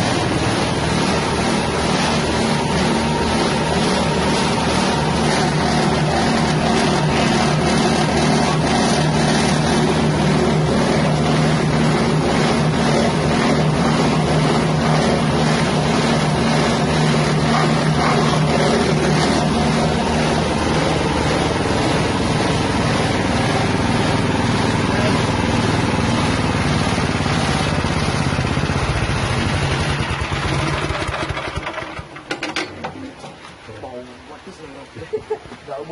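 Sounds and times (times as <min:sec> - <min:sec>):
engine-driven grinding mill: 0:00.0 - 0:35.9.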